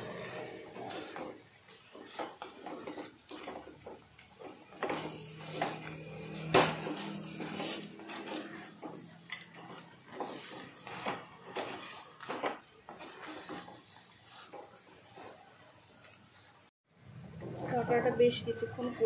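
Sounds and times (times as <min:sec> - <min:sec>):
wooden spatula scraping clay pot: 0:00.0 - 0:16.5.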